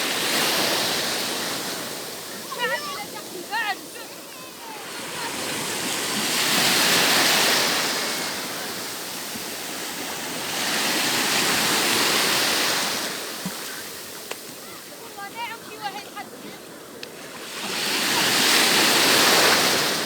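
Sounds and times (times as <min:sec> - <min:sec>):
sea waves washing ashore: 0:00.0 - 0:20.0.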